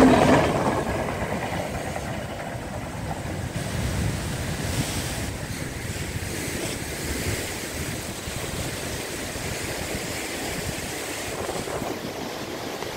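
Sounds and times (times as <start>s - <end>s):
sea surf breaking over rocks: 0.0s - 12.9s
wind buffeting microphone: 0.0s - 12.9s.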